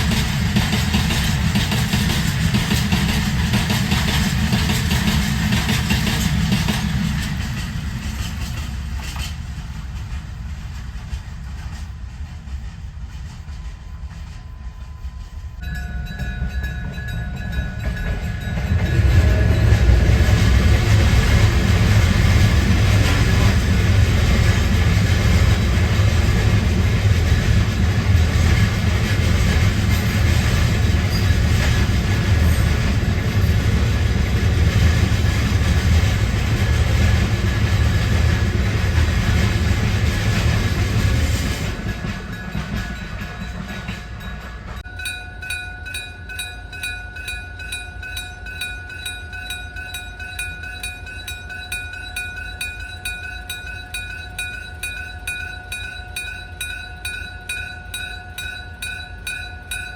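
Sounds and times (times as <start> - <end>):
freight train clattering on rails: 0.0 - 59.9.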